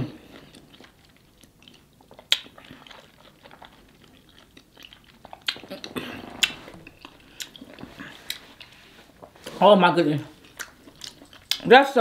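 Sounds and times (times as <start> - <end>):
person chewing with wet smacking: 0.0 - 9.6, 10.2 - 12.0.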